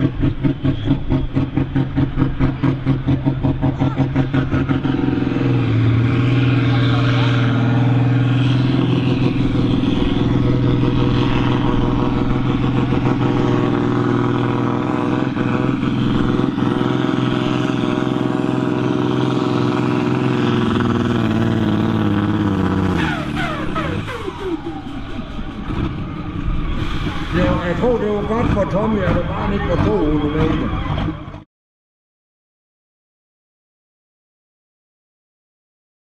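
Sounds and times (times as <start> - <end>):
diesel tractor engine under load: 0.0 - 31.5.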